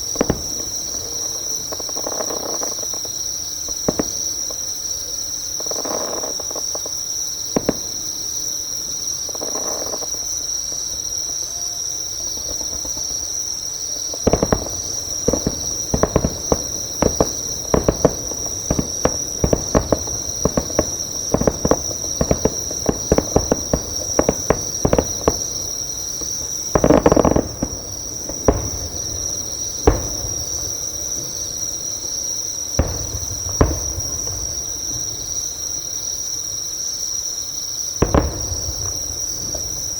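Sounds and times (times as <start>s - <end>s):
distant fireworks bangs: 0.0s - 36.3s, 38.0s - 39.9s
insects trilling: 0.0s - 39.9s.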